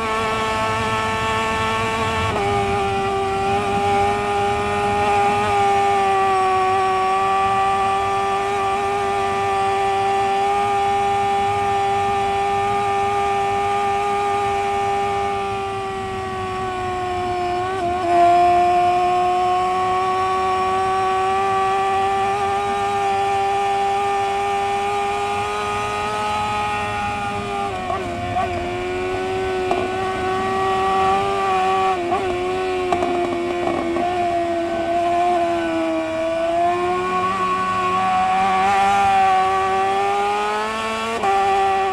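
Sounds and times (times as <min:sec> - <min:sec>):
motorcycle engine at full throttle: 0:00.0 - 0:41.9.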